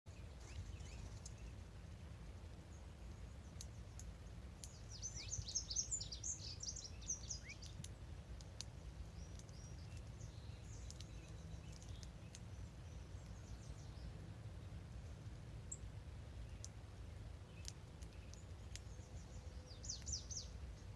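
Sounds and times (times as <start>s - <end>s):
songbirds calling: 0.1s - 20.9s
steady low rumble: 0.1s - 20.9s.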